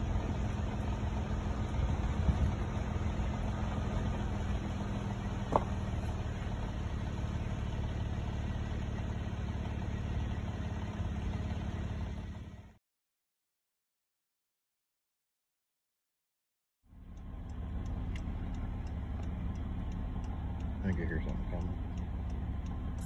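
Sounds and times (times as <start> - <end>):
vehicle engine idling: 0.0 - 12.8, 16.9 - 23.0.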